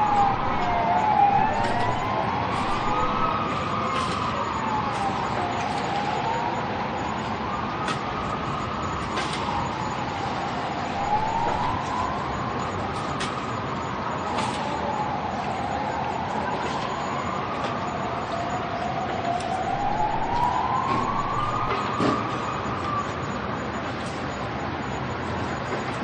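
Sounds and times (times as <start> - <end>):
distant ambulance siren wailing: 0.0 - 26.0.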